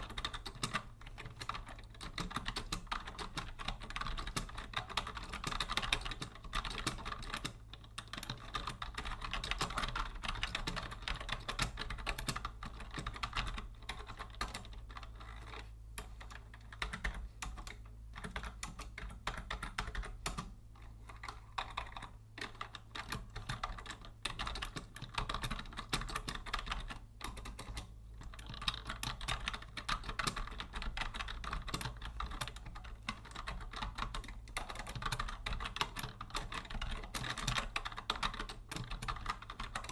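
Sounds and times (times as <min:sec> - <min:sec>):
faint low hum: 0:00.0 - 0:39.9
fast typing on keyboard: 0:00.0 - 0:39.9.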